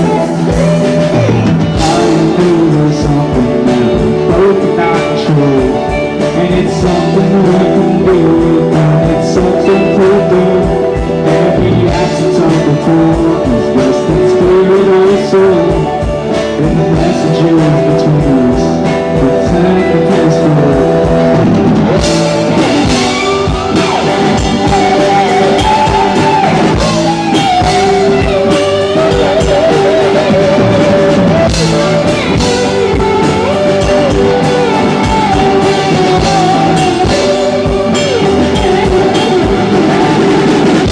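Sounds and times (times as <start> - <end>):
live rock band: 0.0 - 40.9
person singing: 0.0 - 40.9.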